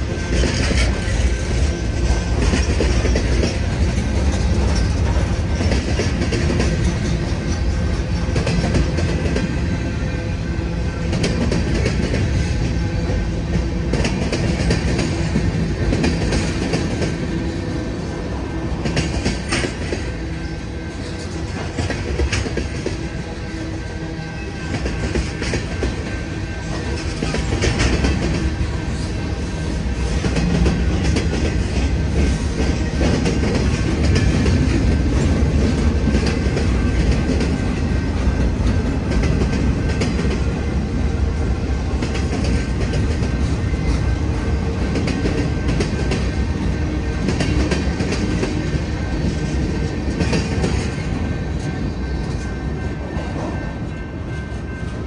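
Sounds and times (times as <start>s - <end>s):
freight train cars rumbling: 0.0s - 55.0s
steel wheels clicking on rail joints: 0.0s - 55.0s.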